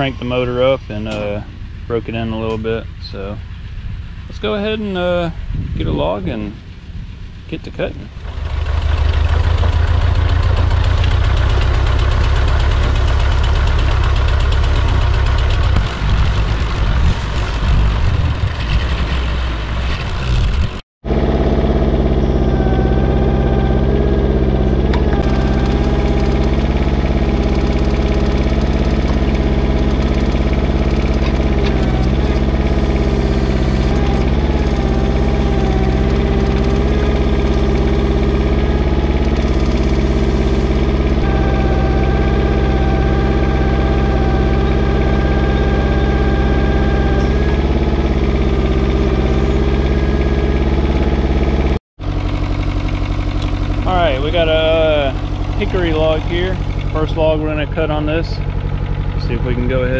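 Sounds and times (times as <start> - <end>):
diesel engine running: 0.0 - 59.9
heavy engine under load: 0.0 - 59.9
hydraulic whine: 0.0 - 59.9.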